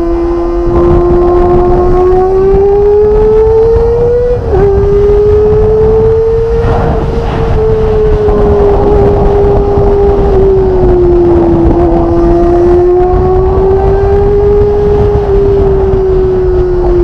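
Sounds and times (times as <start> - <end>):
motorcycle engine: 0.0 - 17.0
wind rushing over camera: 0.0 - 17.0.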